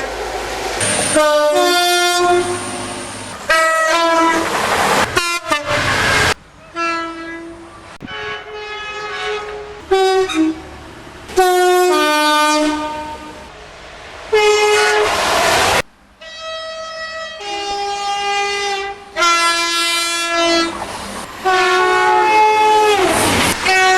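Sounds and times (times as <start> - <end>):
train noise rushing: 0.0 - 23.9
train two-tone air horns: 0.8 - 13.5, 14.3 - 23.9.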